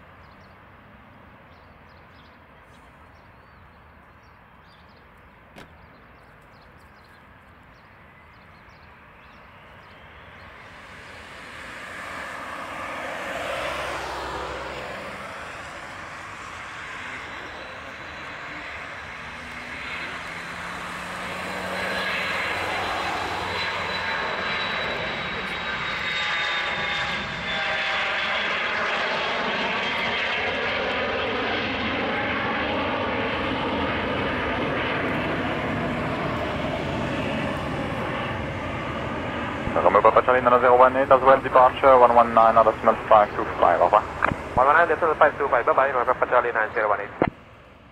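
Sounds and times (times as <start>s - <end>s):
jet engines roaring at takeoff: 0.0s - 47.9s
high jet whine: 8.9s - 47.9s.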